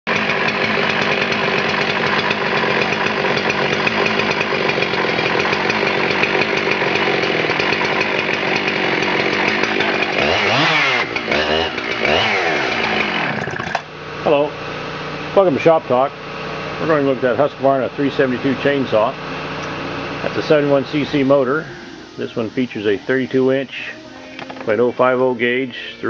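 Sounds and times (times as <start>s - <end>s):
chainsaw running at high revs: 0.1s - 26.0s.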